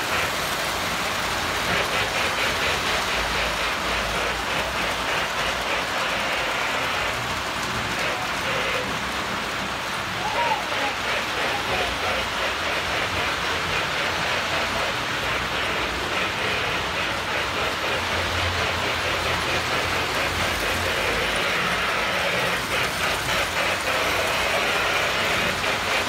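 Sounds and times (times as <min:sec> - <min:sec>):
model train rattle and rumble: 0:00.0 - 0:26.0
wheels clicking over track: 0:00.0 - 0:26.0.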